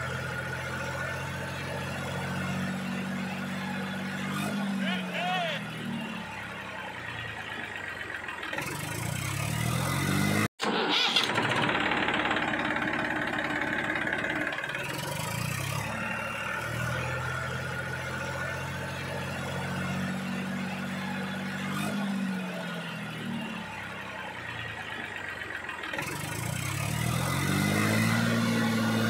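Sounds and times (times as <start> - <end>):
tractor engine revving: 0.0 - 29.0.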